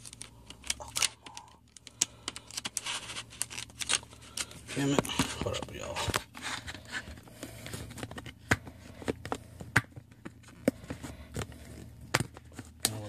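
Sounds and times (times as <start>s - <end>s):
paper booklet rustling: 0.0s - 12.8s.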